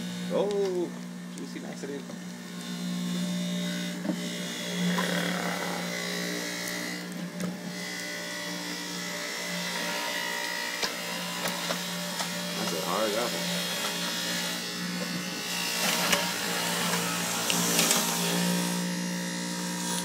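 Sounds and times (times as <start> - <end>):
electric juicer motor hum: 0.0 - 20.0.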